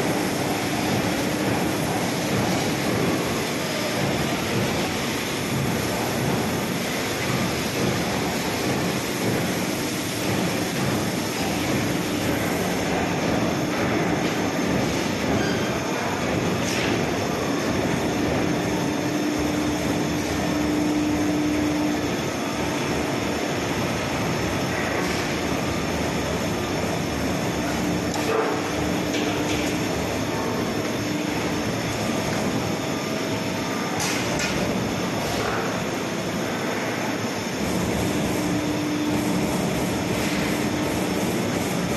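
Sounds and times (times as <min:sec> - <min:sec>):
punch press machine whirring: 0:00.0 - 0:41.9.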